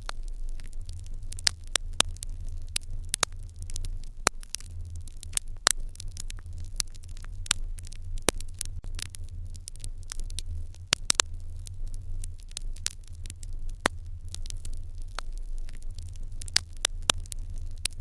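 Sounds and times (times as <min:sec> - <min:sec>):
fire crackling with pops: 0:00.0 - 0:18.0.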